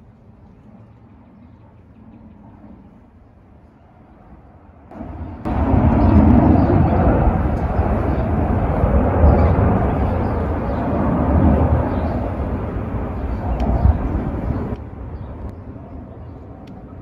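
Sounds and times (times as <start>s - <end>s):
airplane drone overhead: 0.0s - 17.0s.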